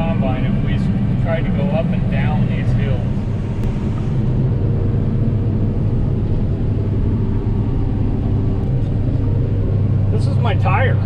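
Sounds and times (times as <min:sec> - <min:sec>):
combine harvester engine hum: 0:00.0 - 0:11.0.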